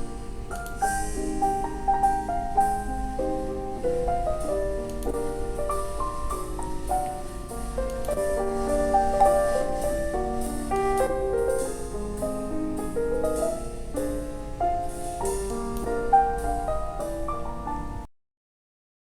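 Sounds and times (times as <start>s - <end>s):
background piano music: 0.0s - 18.1s.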